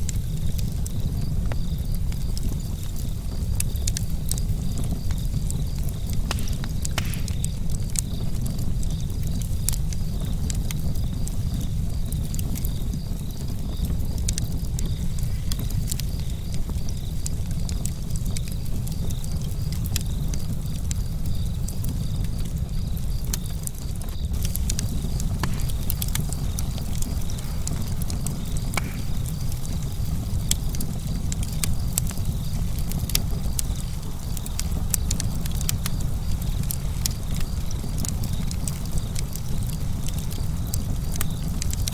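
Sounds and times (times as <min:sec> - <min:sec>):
campfire crackling and popping: 0:00.0 - 0:41.9
fire low rumble: 0:00.0 - 0:41.9.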